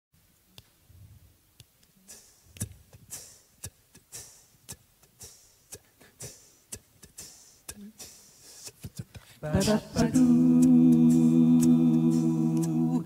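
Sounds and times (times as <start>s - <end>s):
vocal hissing tss sounds: 2.0s - 13.0s
vocal clicks: 2.1s - 13.0s.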